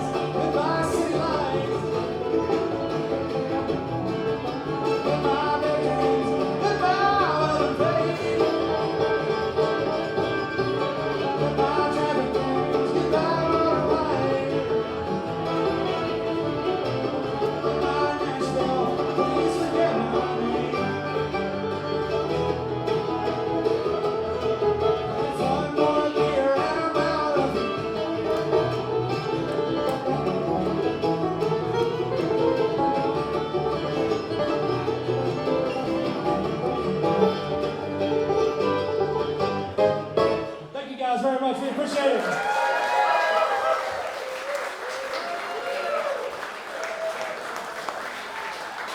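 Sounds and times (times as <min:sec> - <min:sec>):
banjo: 0:00.0 - 0:40.8
guitar: 0:00.0 - 0:40.8
bluegrass band playing: 0:00.0 - 0:48.9.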